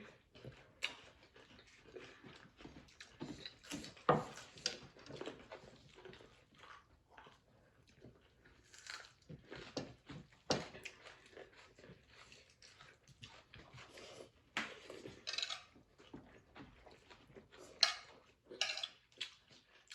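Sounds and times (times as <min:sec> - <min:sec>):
person chewing and biting: 0:00.8 - 0:19.9.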